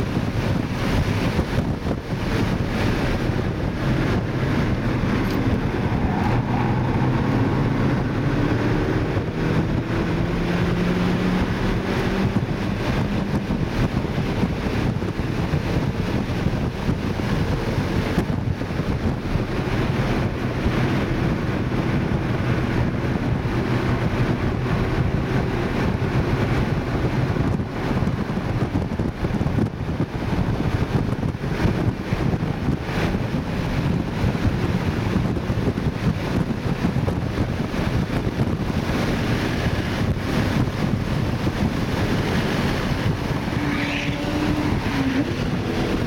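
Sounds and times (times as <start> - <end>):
car engine running hard: 0.0 - 46.0
wind and road noise: 0.0 - 46.0.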